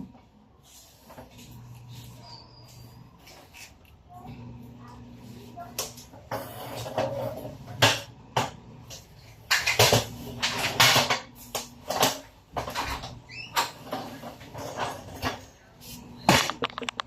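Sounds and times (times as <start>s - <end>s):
rustling and scraping: 0.0s - 4.2s, 5.2s - 7.9s, 8.8s - 17.0s.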